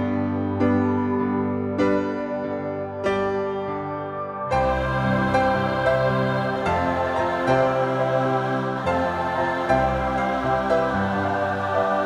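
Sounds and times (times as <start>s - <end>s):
slow keyboard chords: 0.0s - 12.0s.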